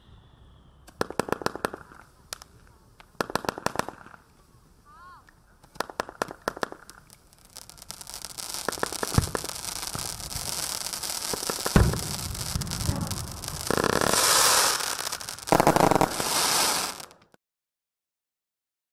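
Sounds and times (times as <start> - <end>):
firework bangs: 0.1 - 4.4, 5.5 - 17.4
firework barrage hiss and crackle: 0.3 - 17.4.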